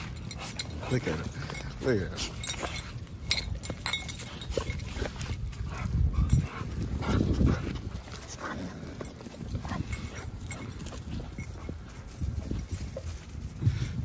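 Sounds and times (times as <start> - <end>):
dogs growling: 0.0 - 11.5.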